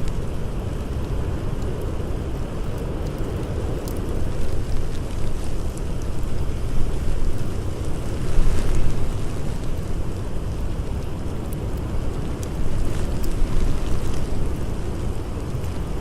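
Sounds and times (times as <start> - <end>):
blizzard wind low rumble: 0.0 - 16.0
wood fire crackling: 0.0 - 16.0.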